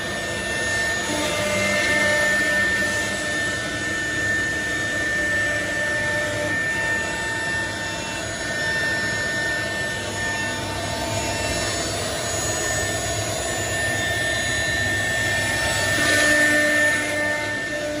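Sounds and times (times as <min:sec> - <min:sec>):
cnc router cutting wood: 0:00.0 - 0:18.0
vacuum pump running: 0:00.0 - 0:18.0.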